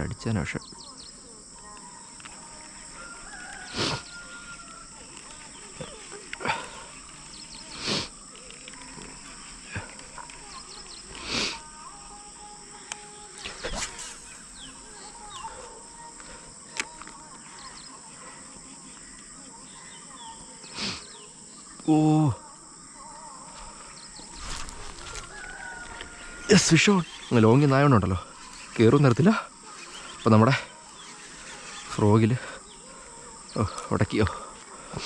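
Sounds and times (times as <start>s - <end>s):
faint bird calls: 0.0s - 35.0s
insect chirring: 0.0s - 35.0s.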